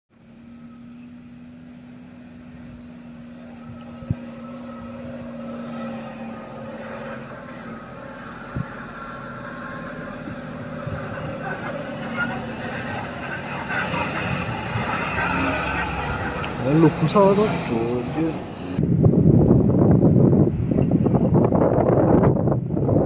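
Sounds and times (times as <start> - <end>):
diesel engine running: 0.1 - 20.6.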